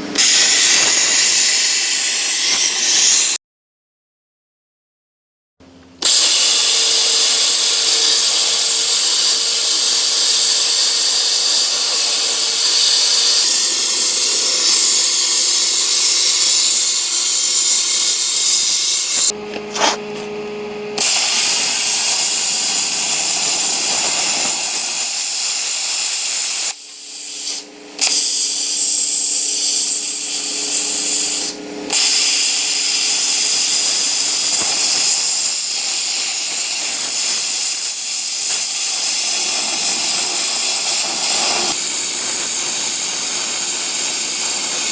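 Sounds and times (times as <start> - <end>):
plasma cutter hissing: 0.0 - 3.4, 6.0 - 20.2, 21.0 - 44.9.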